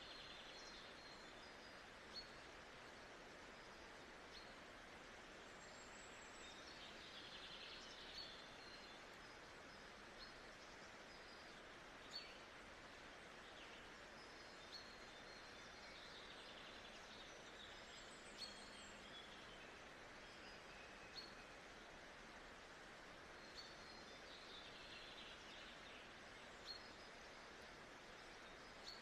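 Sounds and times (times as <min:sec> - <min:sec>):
soft steady hiss: 0:00.0 - 0:29.0.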